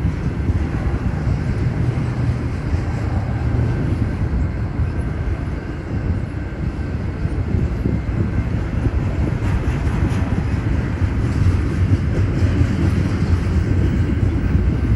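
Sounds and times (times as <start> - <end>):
rattling and clicks from railcars: 0.0 - 14.9
train wheels rumbling on rails: 0.0 - 14.9.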